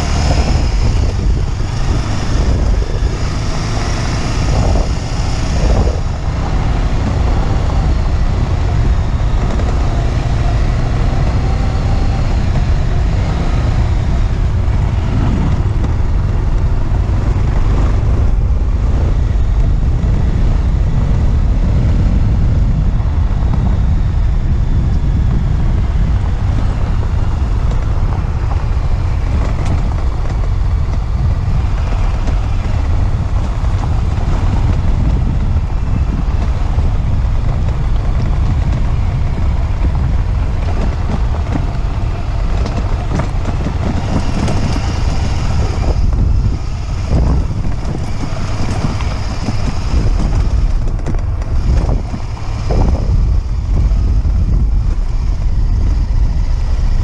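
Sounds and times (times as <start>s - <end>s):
motorcycle engine at speed: 0.0s - 57.0s
wind rumble on microphone: 0.0s - 57.0s.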